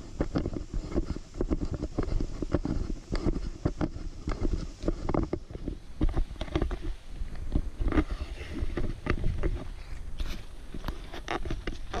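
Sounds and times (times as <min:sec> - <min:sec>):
clothing and gear rustling: 0:00.0 - 0:12.0
footsteps on dirt and rock: 0:00.0 - 0:12.0
low rumble on microphone: 0:00.0 - 0:12.0.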